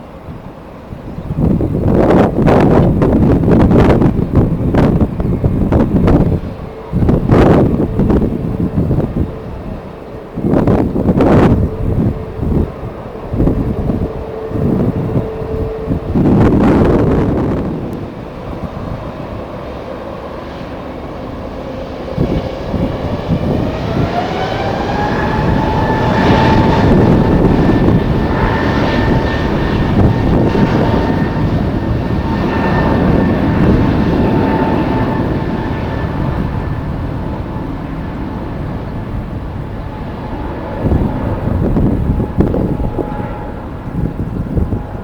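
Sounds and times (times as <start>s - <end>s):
broad rushing noise: 0.0s - 45.0s
jet engine whine: 0.0s - 45.0s
wind buffeting microphone: 0.0s - 45.0s.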